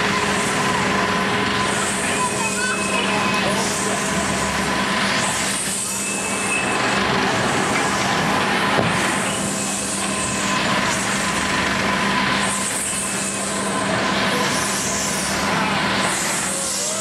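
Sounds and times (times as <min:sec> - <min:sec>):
ride machine hum: 0:00.0 - 0:17.0.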